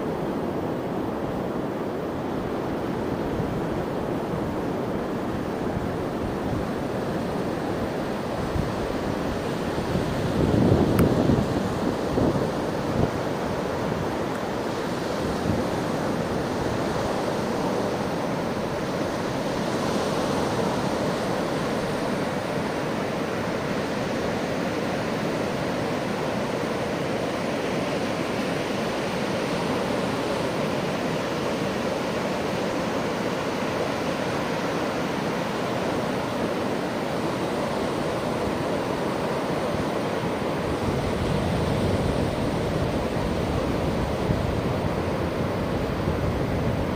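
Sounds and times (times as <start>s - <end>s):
ocean surf breaking: 0.0s - 46.9s
wind: 0.0s - 46.9s.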